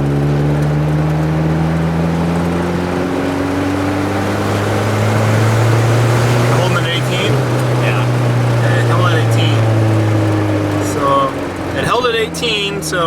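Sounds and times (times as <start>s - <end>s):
turbocharged car engine accelerating: 0.0s - 13.0s.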